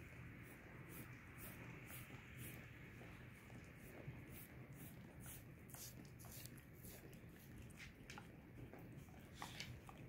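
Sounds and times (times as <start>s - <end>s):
dog licking a foot: 0.0s - 10.0s.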